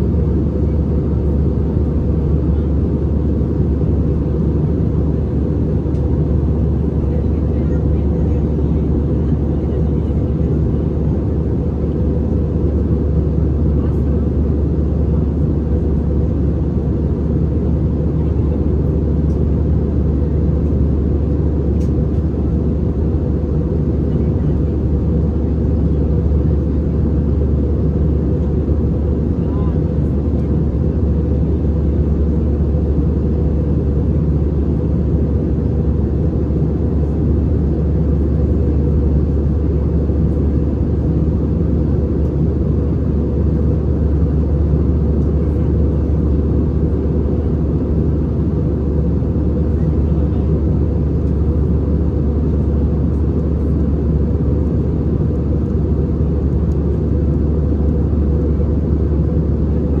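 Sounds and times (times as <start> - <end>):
airplane cabin roar: 0.0 - 60.0.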